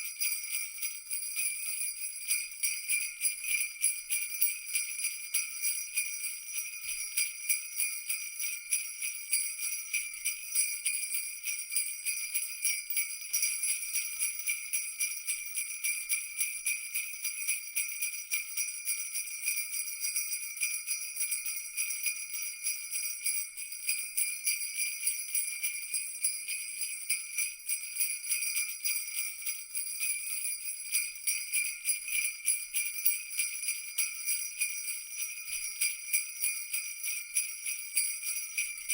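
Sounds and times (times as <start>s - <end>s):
jingle bells shaken: 0.0s - 38.9s.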